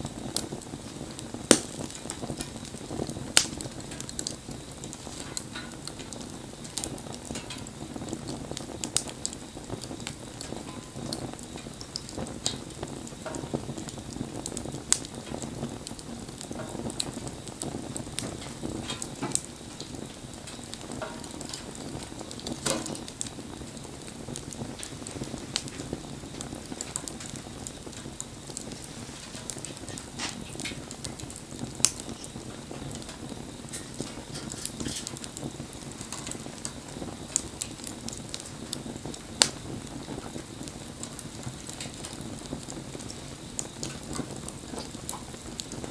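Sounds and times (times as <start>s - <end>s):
fire crackling and popping: 0.0s - 45.9s
wood fire burning: 0.0s - 45.9s.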